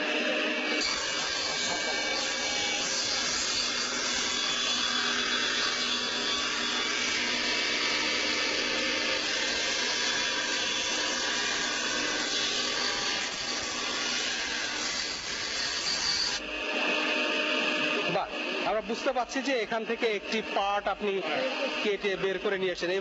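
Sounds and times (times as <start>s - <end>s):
power saw cutting wood: 0.0s - 23.0s.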